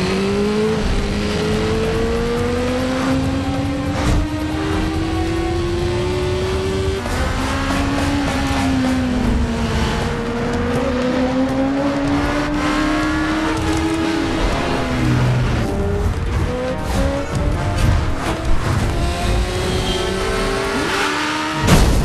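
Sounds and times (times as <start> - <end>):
motorcycle engines racing: 0.0 - 21.9
road rumble: 0.0 - 22.0.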